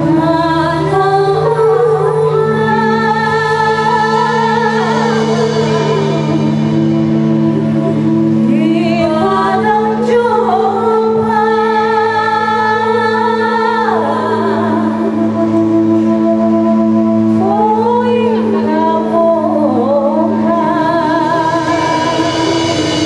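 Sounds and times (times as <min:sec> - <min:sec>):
steady low drone: 0:00.0 - 0:23.0.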